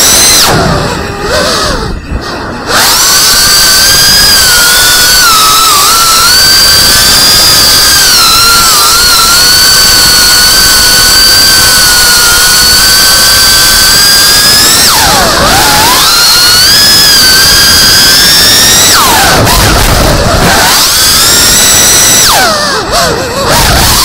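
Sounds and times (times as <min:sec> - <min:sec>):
drone motors whining: 0:00.0 - 0:24.0
rush of air noise: 0:00.0 - 0:24.0.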